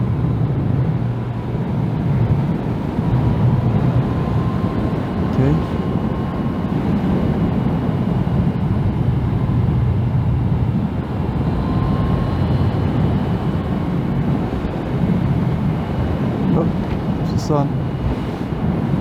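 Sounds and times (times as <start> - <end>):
road noise: 0.0 - 19.0
wind buffeting microphone: 0.0 - 19.0.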